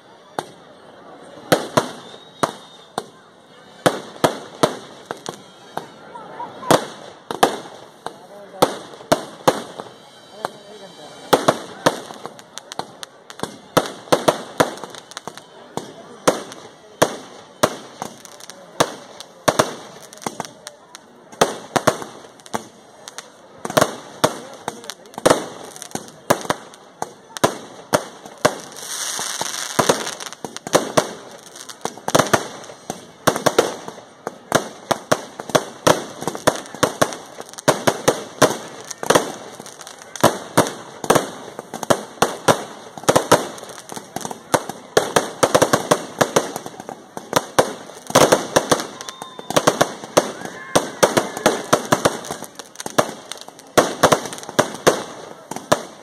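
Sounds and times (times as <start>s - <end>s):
firecracker bangs and crackles: 0.0s - 0.6s, 1.3s - 56.0s.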